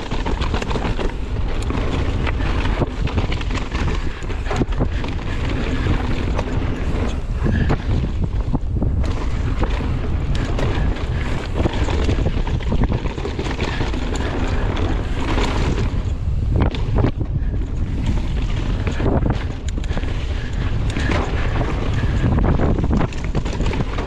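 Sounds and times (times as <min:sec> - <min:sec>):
bike rattling and knocking: 0:00.0 - 0:24.0
bike tyres rumbling: 0:00.0 - 0:24.0
wind buffeting microphone: 0:00.0 - 0:24.0.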